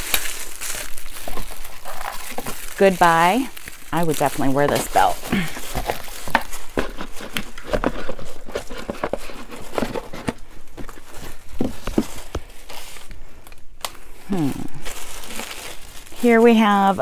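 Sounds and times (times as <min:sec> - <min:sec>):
packaging rustling: 0:00.0 - 0:17.0.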